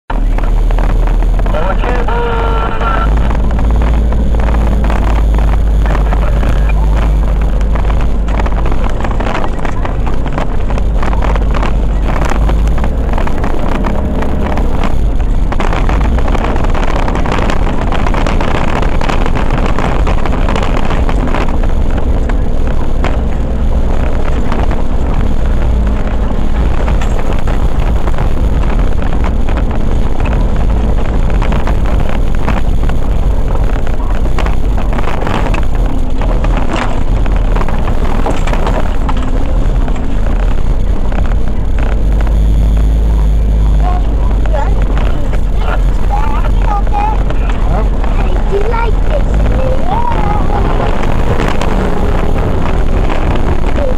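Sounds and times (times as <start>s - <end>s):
off-road vehicle engine rumble: 0.0s - 53.9s
rattling and road noise: 0.0s - 53.9s.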